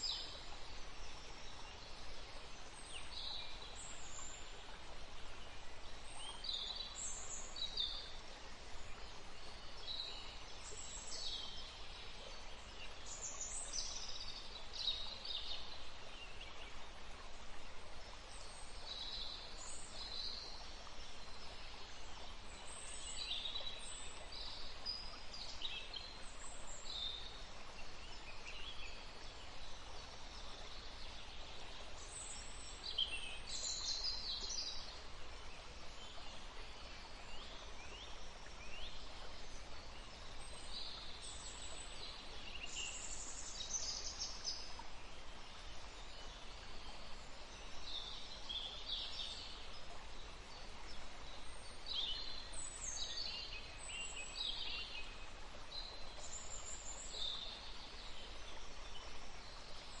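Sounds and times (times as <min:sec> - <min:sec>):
songbirds chirping: 0:00.0 - 1:00.0
stream flowing: 0:00.0 - 1:00.0.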